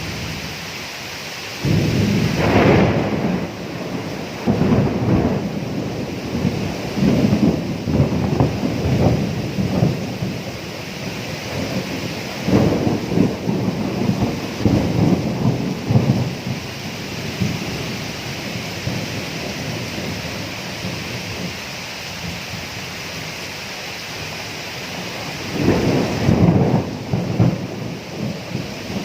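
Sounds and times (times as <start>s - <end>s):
steady rain: 0.0s - 29.0s
rolling thunder: 1.6s - 21.6s, 24.2s - 29.0s.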